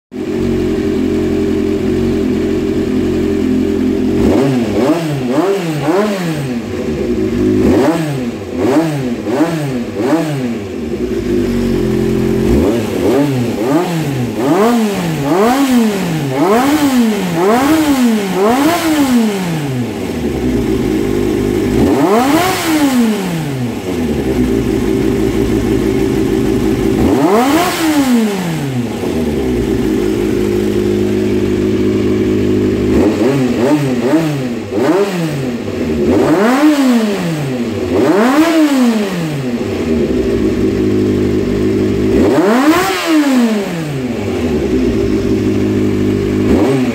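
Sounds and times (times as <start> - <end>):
motorcycle engine idling and revving: 0.1 - 46.9.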